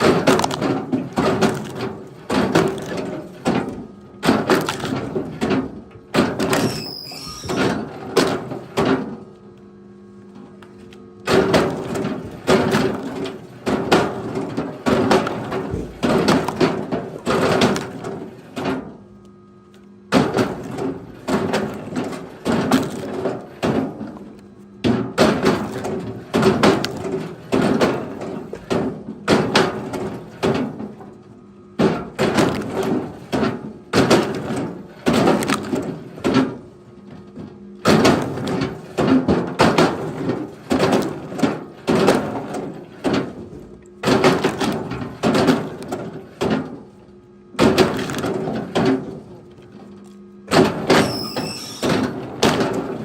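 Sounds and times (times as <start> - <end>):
low motor hum: 0.0 - 51.2.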